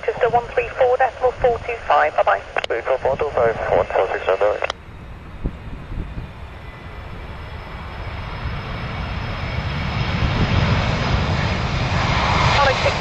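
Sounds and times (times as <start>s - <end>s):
jet airliner engines rumbling: 0.0s - 13.0s.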